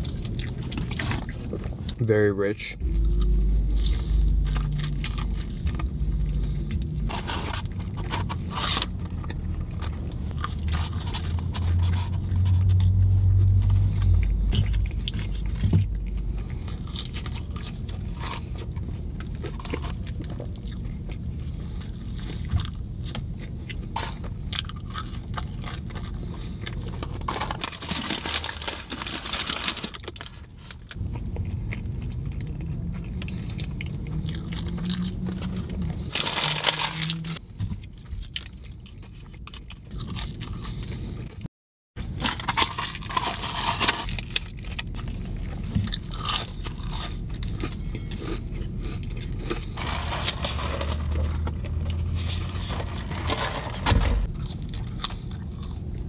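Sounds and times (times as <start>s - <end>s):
person chewing crunchy food: 0.0s - 2.0s, 2.8s - 56.0s
low steady hum: 0.0s - 56.0s.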